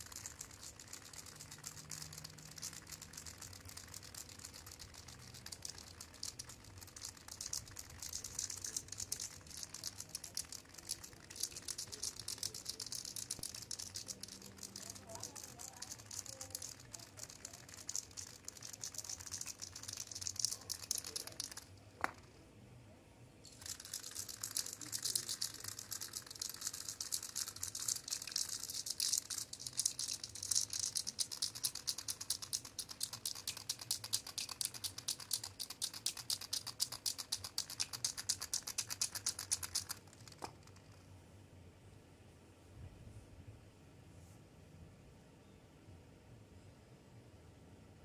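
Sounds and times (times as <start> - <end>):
spray can ball rattling: 0.0 - 22.4, 23.5 - 41.1.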